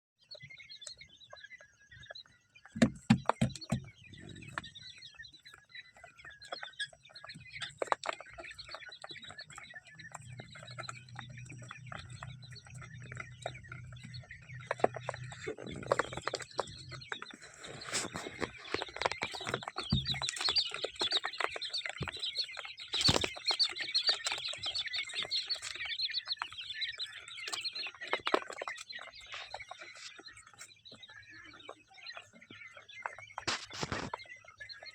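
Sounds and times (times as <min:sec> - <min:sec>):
quail chirping: 0:00.2 - 0:34.9.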